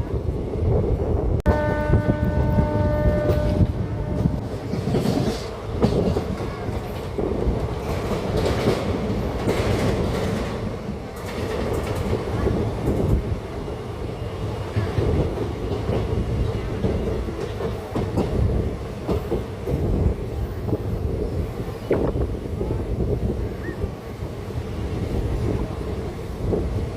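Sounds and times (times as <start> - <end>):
train wheels rumbling on track: 0.0 - 26.9.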